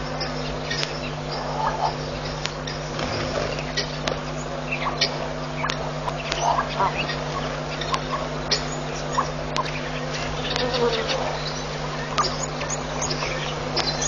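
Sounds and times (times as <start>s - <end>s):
birds chirping and calling: 0.0s - 14.0s
repeated bird call: 0.0s - 14.0s
steady low hum: 0.0s - 14.0s.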